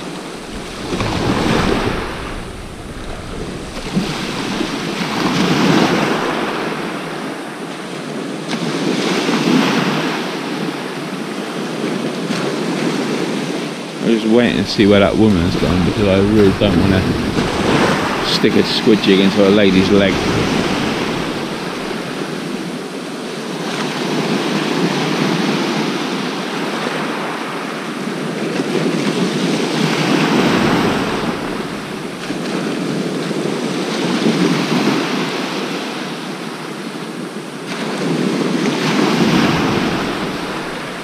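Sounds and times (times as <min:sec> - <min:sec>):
sea surf breaking on beach: 0:00.0 - 0:41.0.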